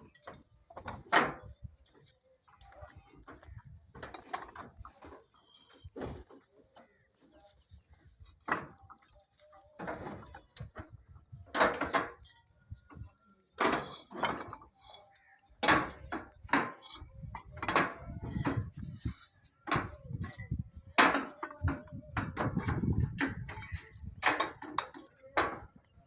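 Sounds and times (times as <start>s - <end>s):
knocks and scrapes: 0.0s - 9.2s, 9.8s - 25.8s.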